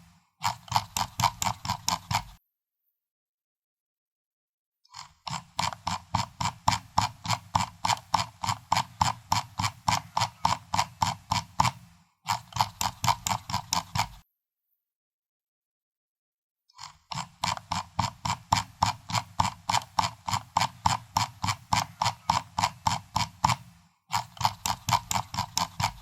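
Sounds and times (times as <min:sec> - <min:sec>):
mouse scroll wheel clicking: 0:00.0 - 0:02.4, 0:04.9 - 0:14.2, 0:16.8 - 0:26.0.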